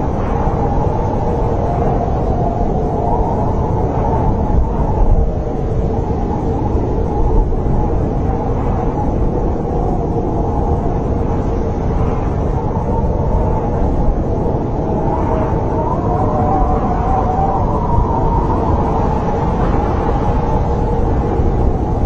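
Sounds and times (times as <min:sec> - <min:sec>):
snowstorm wind howling: 0:00.0 - 0:22.0.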